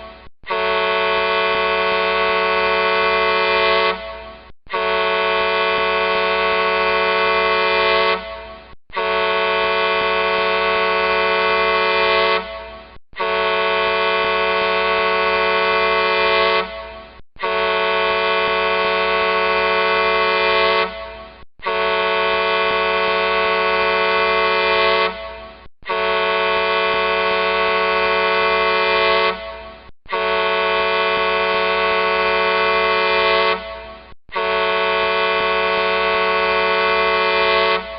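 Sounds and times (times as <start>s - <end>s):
truck horn blasts: 0.0s - 37.9s.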